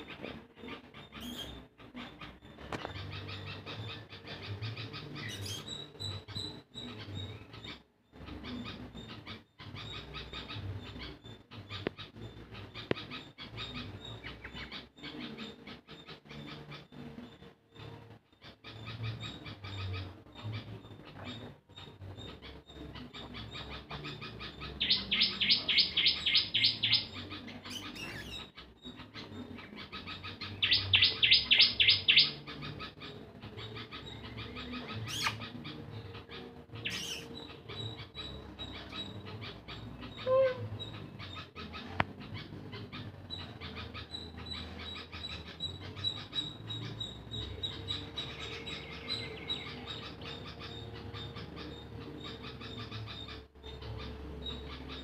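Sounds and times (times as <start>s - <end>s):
rapid high bird chirps: 0.0s - 17.1s, 18.4s - 55.0s
faint bird chirps and ticks: 0.0s - 55.0s.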